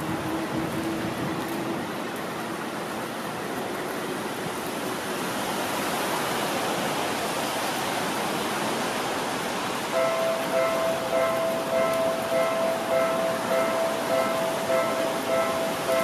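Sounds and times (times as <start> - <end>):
rain splashing on wet tracks: 0.0 - 16.0.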